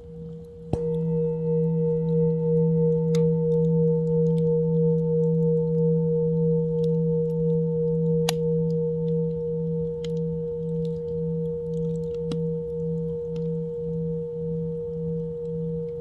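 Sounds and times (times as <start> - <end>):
singing bowl ringing: 0.0 - 16.0.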